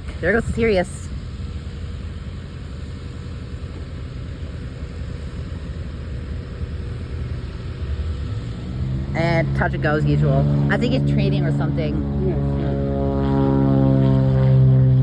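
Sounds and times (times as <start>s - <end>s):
distant propeller airplane droning: 0.0s - 15.0s.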